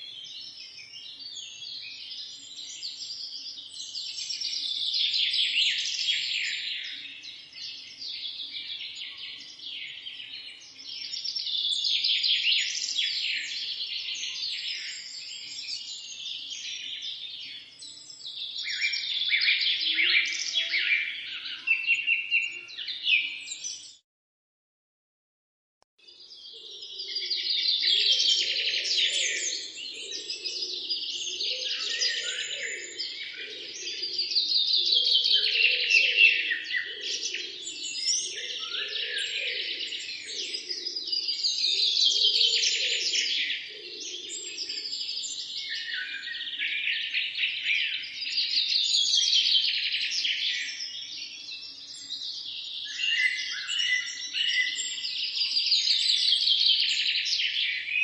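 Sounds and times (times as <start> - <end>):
birds singing trilled song: 0.0 - 24.0, 26.0 - 58.0.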